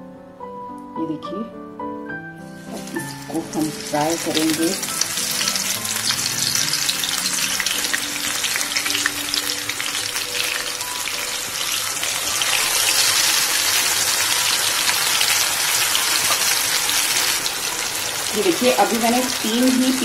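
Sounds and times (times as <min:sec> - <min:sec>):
fish frying in hot oil: 0:02.6 - 0:20.0.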